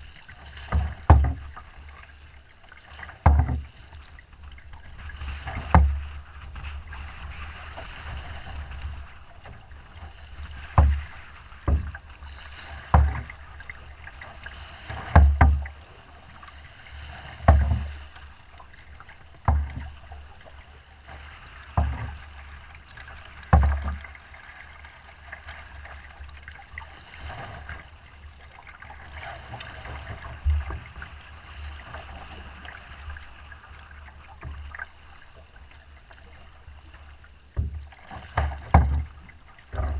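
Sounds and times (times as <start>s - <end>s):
rough water rushing: 0.0s - 39.9s
waves slapping canoe hull: 0.0s - 39.9s
wind: 0.0s - 39.9s.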